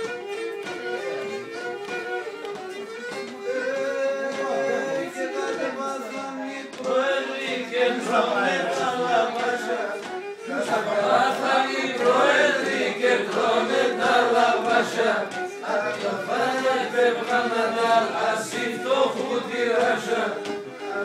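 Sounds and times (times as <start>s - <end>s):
group of people singing: 3.5s - 21.0s.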